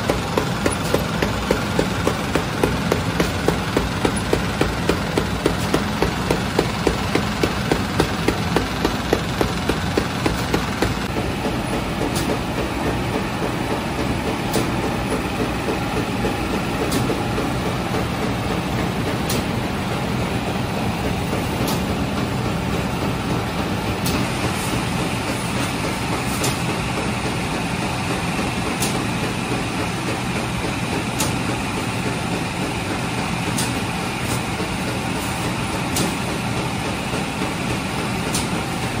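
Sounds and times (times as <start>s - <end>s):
bakery machinery humming: 0.0s - 39.0s.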